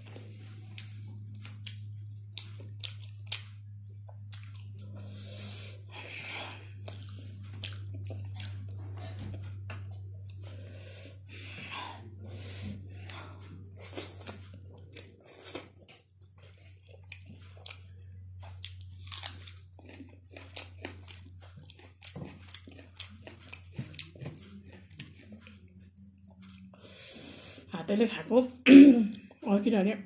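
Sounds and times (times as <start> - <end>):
steady low hum: 0.0 - 30.0
person chewing and lip smacking: 0.5 - 27.5.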